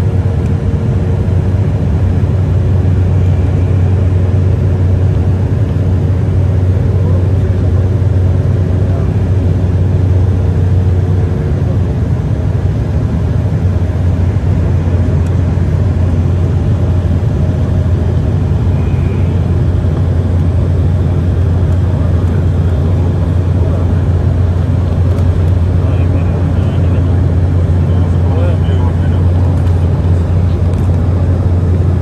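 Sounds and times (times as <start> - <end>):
aircraft cabin engine drone: 0.0 - 32.0.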